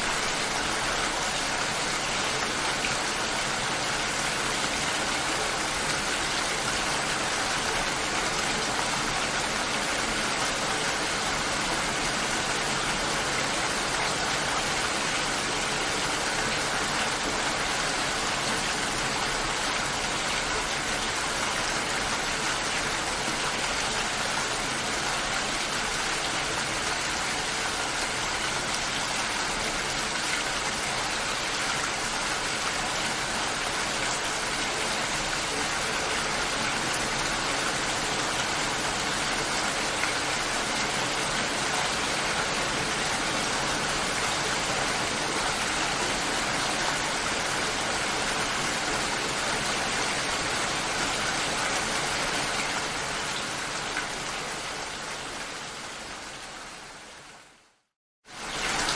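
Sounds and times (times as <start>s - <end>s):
steady rainfall: 0.0s - 58.9s.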